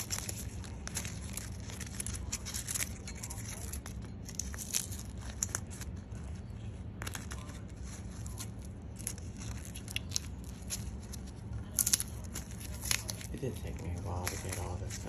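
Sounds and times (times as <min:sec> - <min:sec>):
steady low hum: 0:00.0 - 0:15.0
tape crinkling and rustling: 0:00.0 - 0:15.0.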